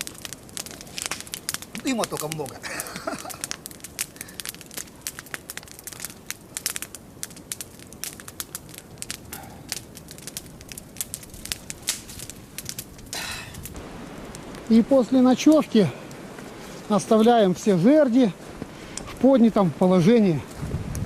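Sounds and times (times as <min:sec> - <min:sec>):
campfire crackling and popping: 0:00.0 - 0:21.0
hiss of burning: 0:00.0 - 0:21.0.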